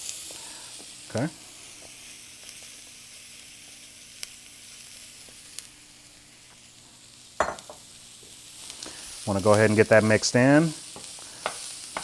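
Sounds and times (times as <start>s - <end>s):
vegetables sizzling in a skillet: 0.0s - 12.0s.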